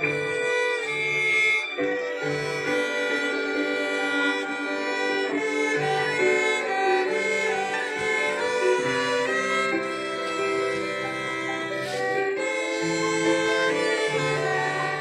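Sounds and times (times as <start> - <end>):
violins playing a melody: 0.0 - 15.0.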